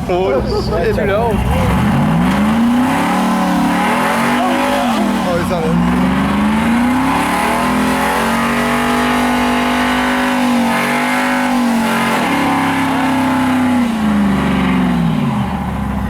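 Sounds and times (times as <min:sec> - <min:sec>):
engine revving high: 0:01.2 - 0:16.0.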